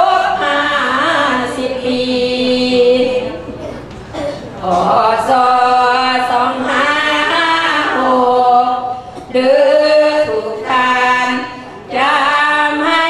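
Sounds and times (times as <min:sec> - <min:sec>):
women chanting together: 0:00.0 - 0:03.6, 0:04.6 - 0:13.0.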